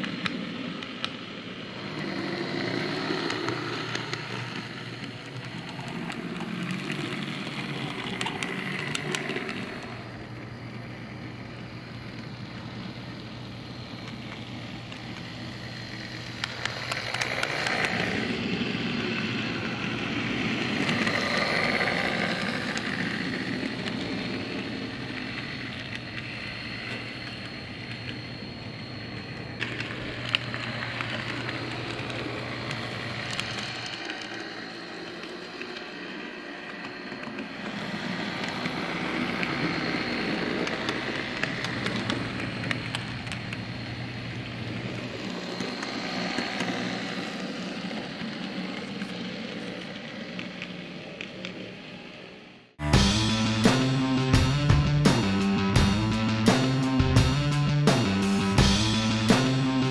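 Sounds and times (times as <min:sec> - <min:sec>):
model wheels clicking on rails: 0:00.0 - 0:52.6
small electric motor humming: 0:00.0 - 0:54.7.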